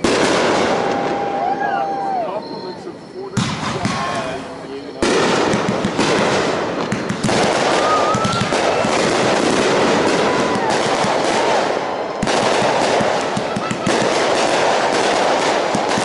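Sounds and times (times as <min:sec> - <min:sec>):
firework shells bursting: 0:00.0 - 0:01.7, 0:03.0 - 0:16.0
fireworks crackling and popping: 0:00.0 - 0:16.0.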